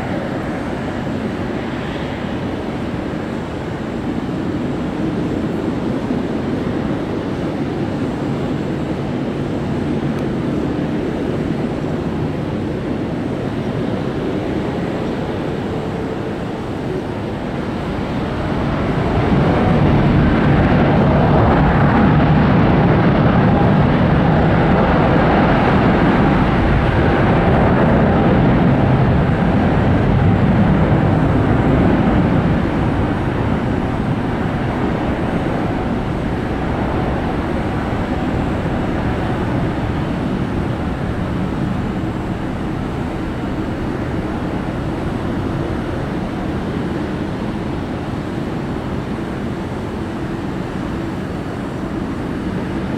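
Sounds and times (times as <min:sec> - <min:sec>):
jet engines rumbling: 0:00.0 - 0:52.9.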